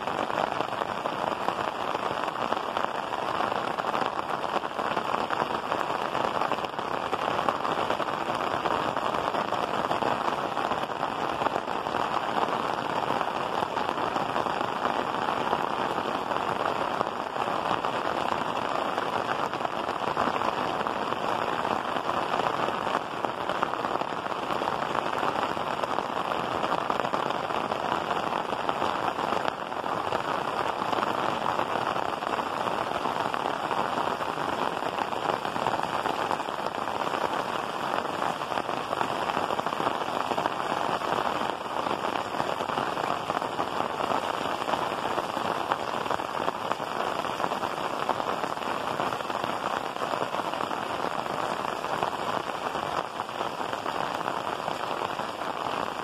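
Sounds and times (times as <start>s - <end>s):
rain on roof tiles: 0.0s - 56.0s.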